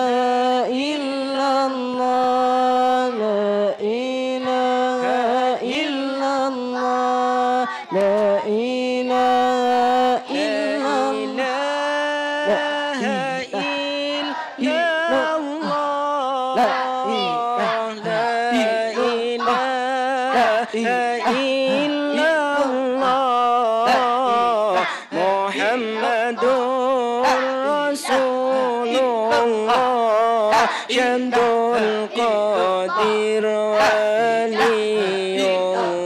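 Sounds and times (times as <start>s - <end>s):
men chanting through microphones: 0.0s - 36.0s.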